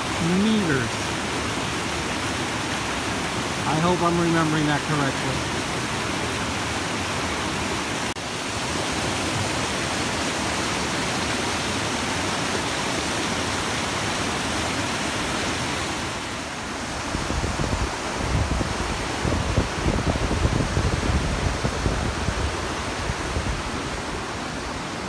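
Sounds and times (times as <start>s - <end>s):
river rapids roaring: 0.0s - 25.0s.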